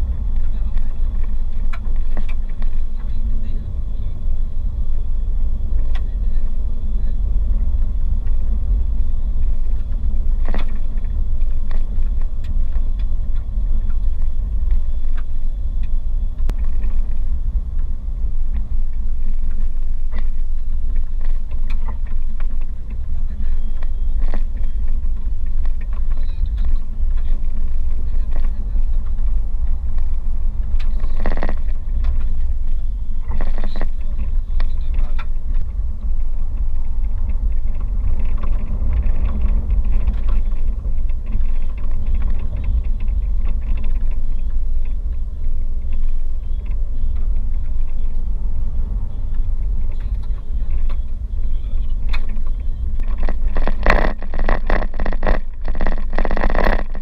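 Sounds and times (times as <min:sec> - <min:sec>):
clatter and knocks over bumps: 0:00.0 - 0:03.7, 0:07.2 - 0:57.0
car rumbling on gravel road: 0:00.0 - 0:57.0.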